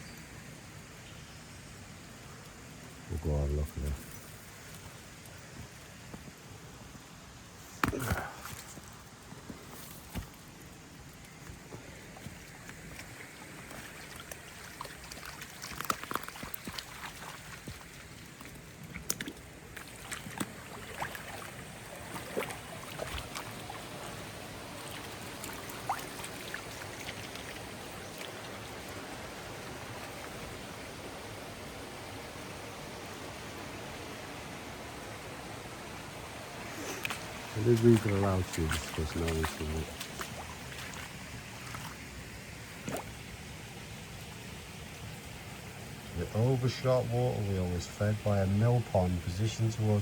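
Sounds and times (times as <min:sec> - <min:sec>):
flowing water rushing: 0:07.8 - 0:50.0.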